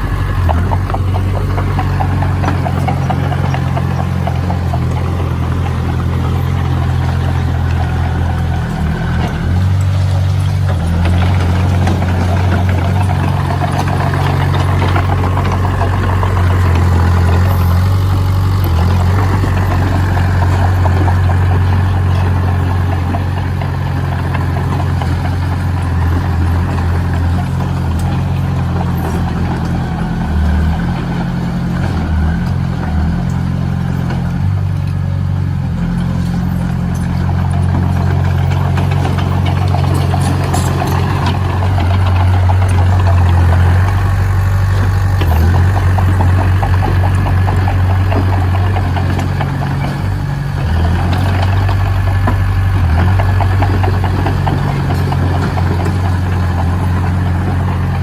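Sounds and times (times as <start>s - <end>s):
heavy machinery engine droning: 0.0s - 58.0s.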